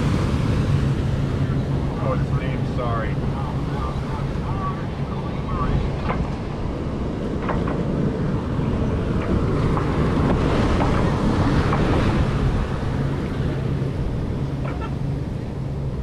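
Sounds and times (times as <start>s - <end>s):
water washing along hull: 0.0s - 16.0s
wind buffeting microphone: 0.0s - 16.0s.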